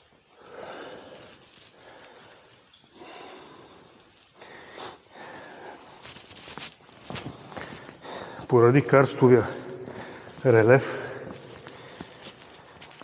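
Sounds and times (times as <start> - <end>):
person breathing heavily: 0.4 - 6.2, 7.2 - 8.5, 9.4 - 13.0.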